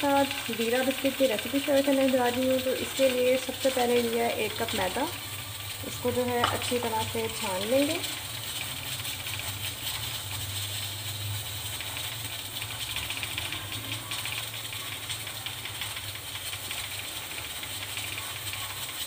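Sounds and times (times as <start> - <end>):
flour sifting through a mesh sieve: 0.0 - 19.0.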